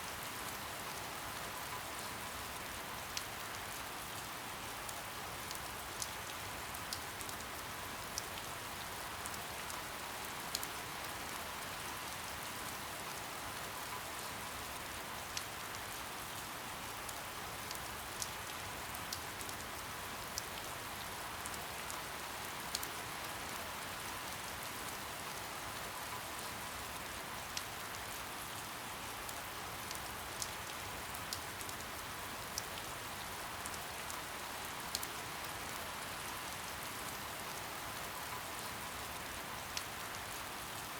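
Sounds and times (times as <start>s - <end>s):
soft rain hiss: 0.0s - 40.9s.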